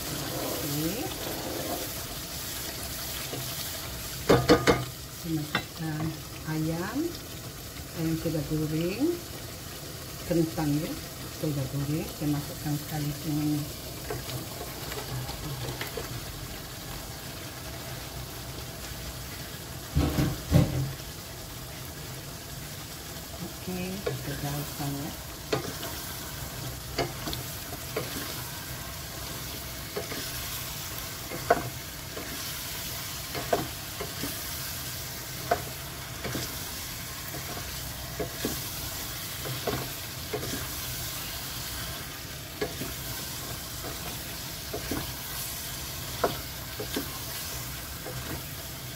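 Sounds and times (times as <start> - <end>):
sauce sizzling in a pot: 0.0 - 48.9.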